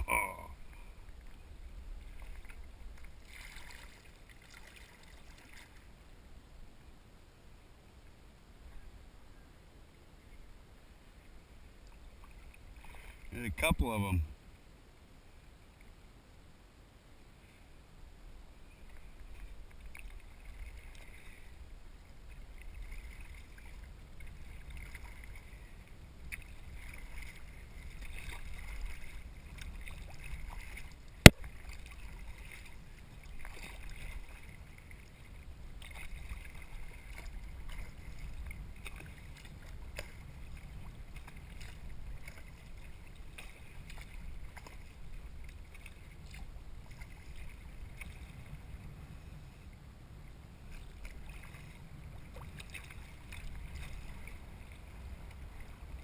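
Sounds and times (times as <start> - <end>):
water splashing around paddle: 0.0 - 6.0, 11.7 - 14.1, 18.7 - 49.6, 50.5 - 56.0.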